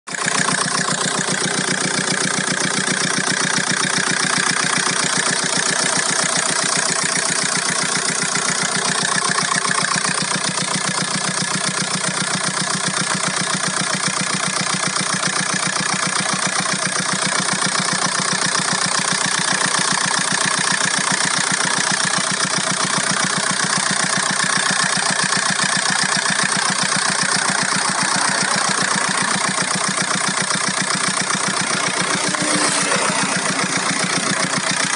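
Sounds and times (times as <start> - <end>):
diesel engine idling: 0.1 - 34.9
strange engine noise: 0.1 - 34.9.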